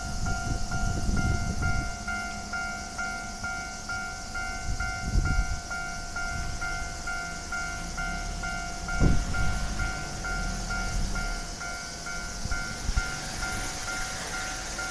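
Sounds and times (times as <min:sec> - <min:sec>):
electric train rumbling past: 0:00.0 - 0:14.9
level-crossing warning bell clanging: 0:00.0 - 0:14.9.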